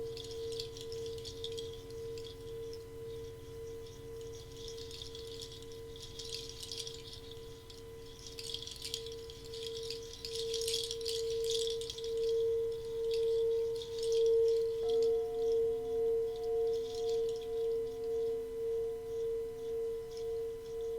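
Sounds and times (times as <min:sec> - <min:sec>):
rattle shaking: 0:00.0 - 0:18.4, 0:19.1 - 0:20.9
singing bowl tone: 0:00.0 - 0:20.9.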